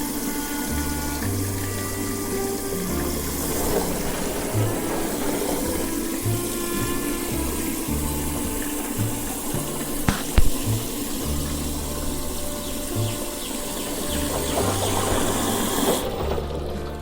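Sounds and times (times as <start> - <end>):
background music with bass line: 0.0 - 17.0
water running: 0.0 - 17.0.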